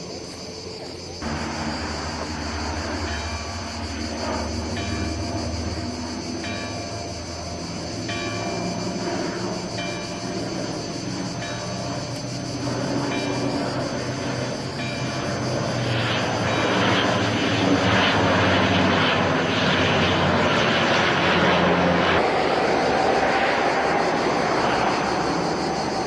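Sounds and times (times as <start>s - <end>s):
aircraft flying past: 0.0s - 26.0s.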